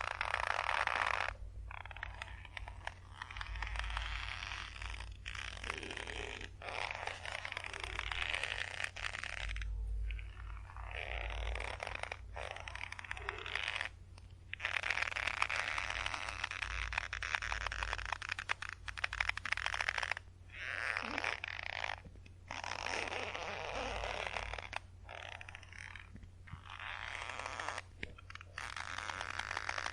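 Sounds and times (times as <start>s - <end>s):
rope creaking under tension: 0.0s - 29.9s.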